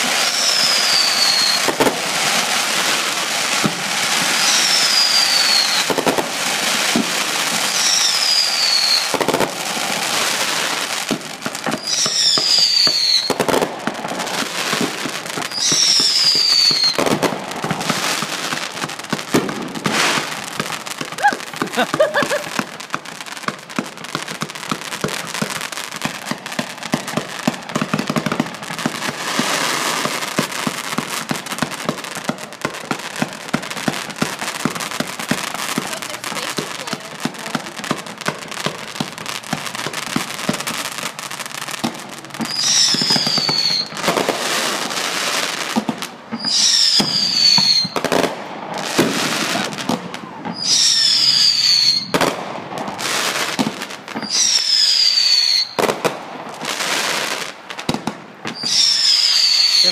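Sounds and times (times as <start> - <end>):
fireworks crackling: 0.0 - 59.9
whistling fireworks: 0.0 - 59.9.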